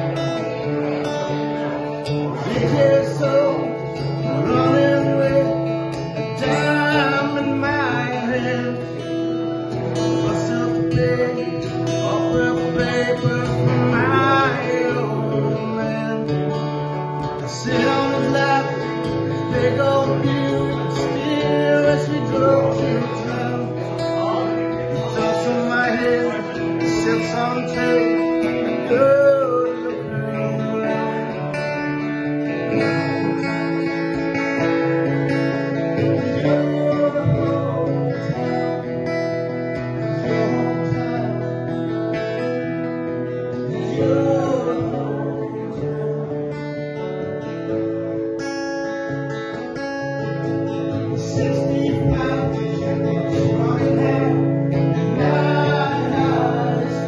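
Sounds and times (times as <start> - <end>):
man singing: 0.0 - 48.2, 49.5 - 57.0
acoustic guitar strumming: 0.0 - 57.0.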